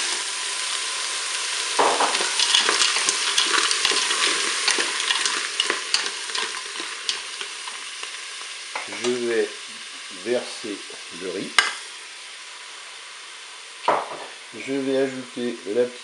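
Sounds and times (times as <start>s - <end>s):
mussels sizzling in hot oil: 0.0s - 16.0s.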